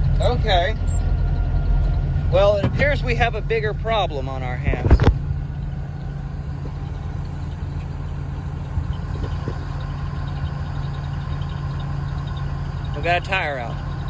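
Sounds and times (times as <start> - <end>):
combine harvester engine droning: 0.0 - 14.0.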